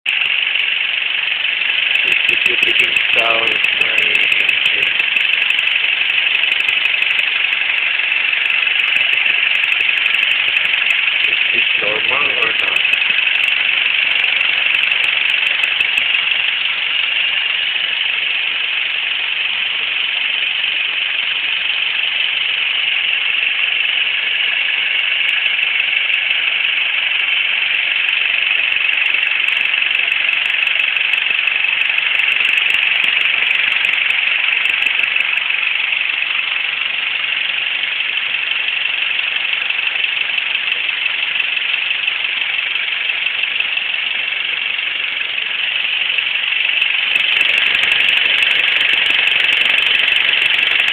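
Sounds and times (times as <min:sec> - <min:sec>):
steady ticking: 0:00.1 - 0:50.9
vehicle engine idling: 0:00.1 - 0:50.9.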